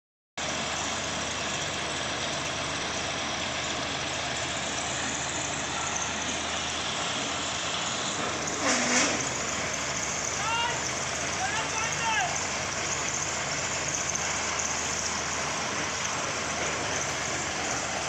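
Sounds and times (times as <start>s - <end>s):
engine idling: 0.4s - 18.0s.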